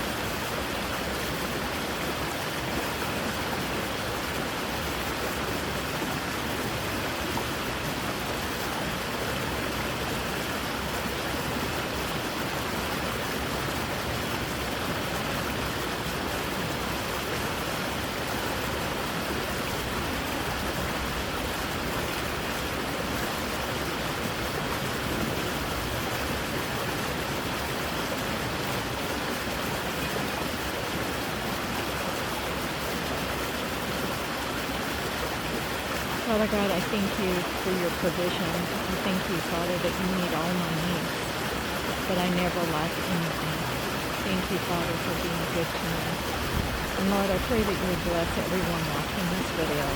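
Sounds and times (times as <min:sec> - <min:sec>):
creek water rushing over rocks: 0:00.0 - 0:49.9.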